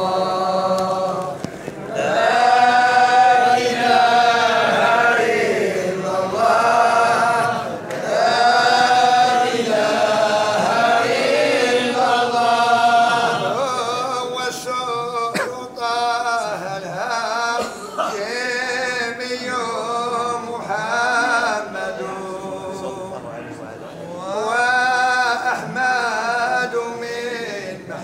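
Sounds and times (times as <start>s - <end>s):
men chanting in unison: 0.0s - 23.2s, 24.1s - 28.0s.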